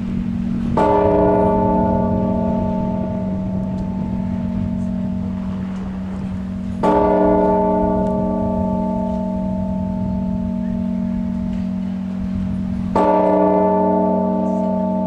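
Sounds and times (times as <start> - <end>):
church bell striking: 0.0 - 15.0
low hum: 0.0 - 15.0.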